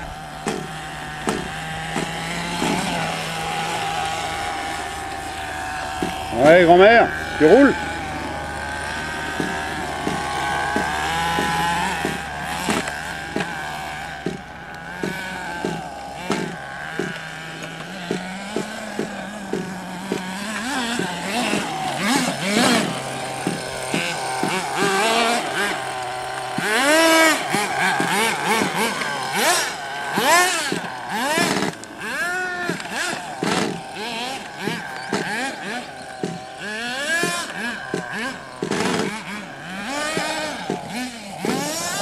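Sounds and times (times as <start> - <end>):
small rc truck engines revving: 0.0 - 42.0.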